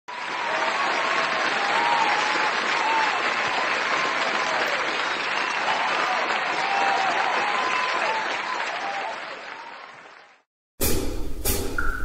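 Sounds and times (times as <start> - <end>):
audience applauding: 0.1 - 10.5.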